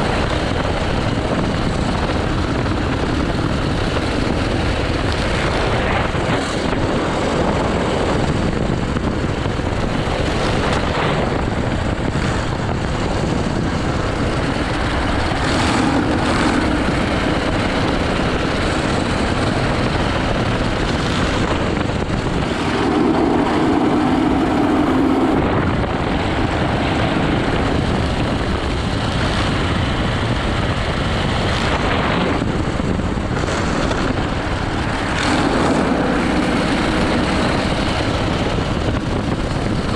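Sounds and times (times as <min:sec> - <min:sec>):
go-kart engine running hard: 0:00.0 - 0:39.9
wind and road noise: 0:00.0 - 0:39.9.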